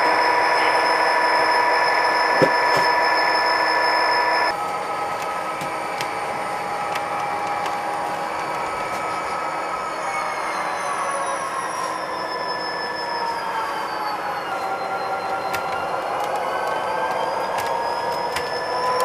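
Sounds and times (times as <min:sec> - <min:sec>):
model train wheels and motor hum: 0:00.0 - 0:19.0
thin motor whine: 0:00.0 - 0:19.0.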